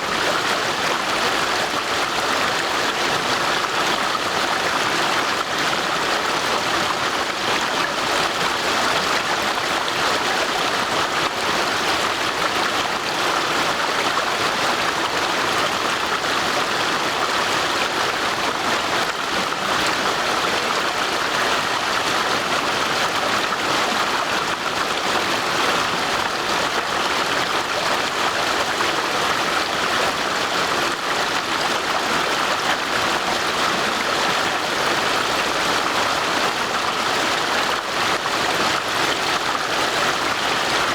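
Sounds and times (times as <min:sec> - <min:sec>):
stream water rushing over stones: 0:00.0 - 0:40.9.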